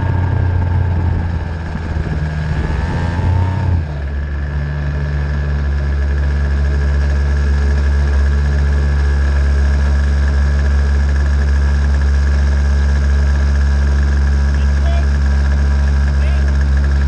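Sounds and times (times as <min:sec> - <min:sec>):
racing engine idling: 0:00.0 - 0:17.0.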